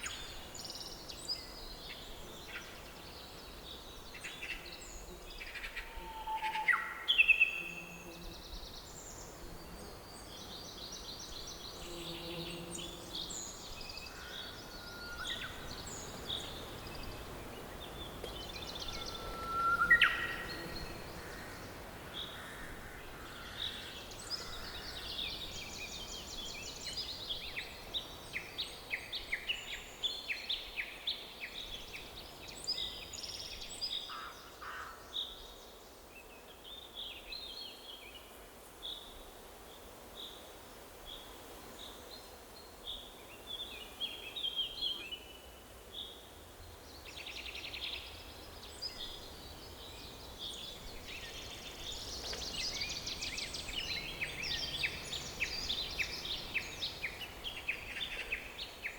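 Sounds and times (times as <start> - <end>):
songbirds singing and calling: 0.0 - 40.4, 41.0 - 58.9
faint background hiss: 0.0 - 58.9.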